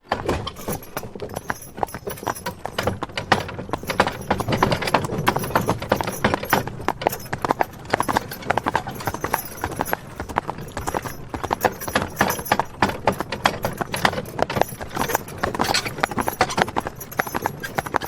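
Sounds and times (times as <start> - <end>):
wagon parts rattling: 0.0 - 18.0
rapid hoofbeats: 0.2 - 18.0.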